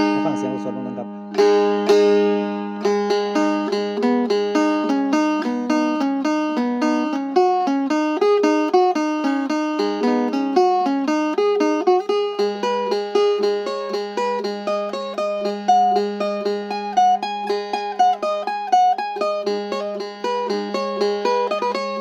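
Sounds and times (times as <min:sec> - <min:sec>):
open-string drone: 0:00.0 - 0:22.0
plucked lute melody: 0:00.0 - 0:22.0.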